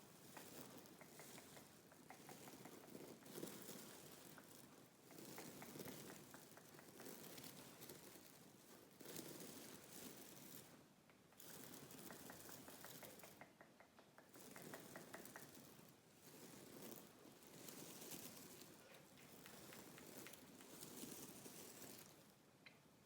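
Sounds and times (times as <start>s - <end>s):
faint scratching and rustling: 0.0s - 23.0s.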